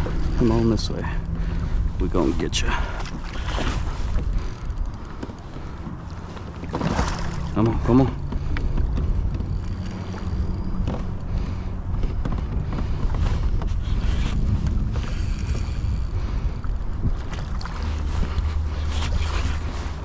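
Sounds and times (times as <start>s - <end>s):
water sloshing against boat hull: 0.0s - 20.0s
wind rumbling on microphone: 0.0s - 20.0s.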